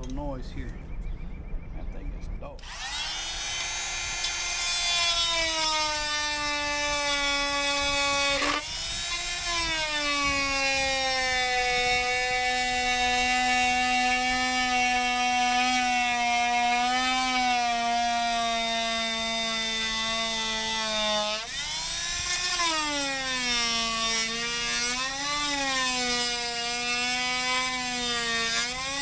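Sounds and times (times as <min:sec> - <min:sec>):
electric drill boring into wall: 0:02.6 - 0:29.0.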